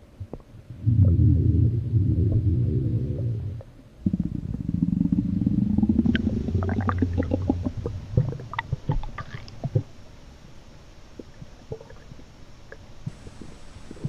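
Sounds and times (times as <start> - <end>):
stomach growling and gurgling: 0.2 - 10.1, 11.1 - 14.0.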